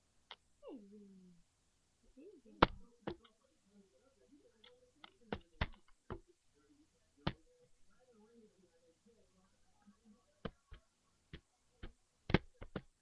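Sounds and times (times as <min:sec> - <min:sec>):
faint soft voice: 0:00.6 - 0:01.4, 0:02.0 - 0:13.0.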